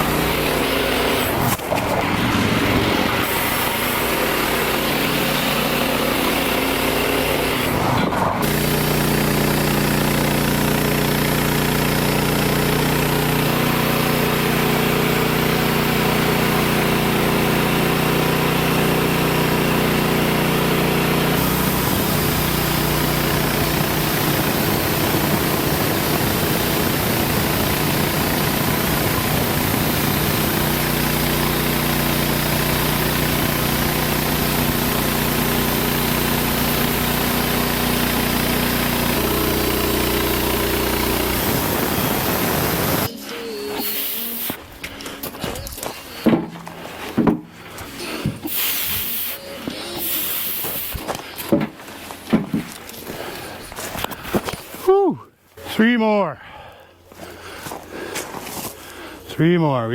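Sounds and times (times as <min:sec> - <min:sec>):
band blade sawing log: 0:00.0 - 0:54.8
sawmill engine running: 0:00.0 - 0:54.9.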